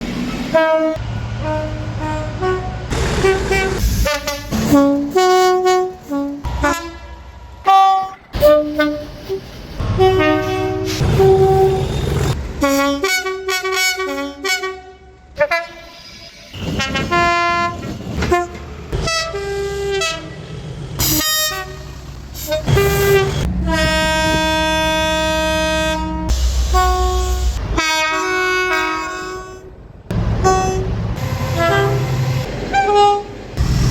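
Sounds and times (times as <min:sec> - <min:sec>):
locomotive air horn chords: 0:00.5 - 0:20.4, 0:21.0 - 0:33.9.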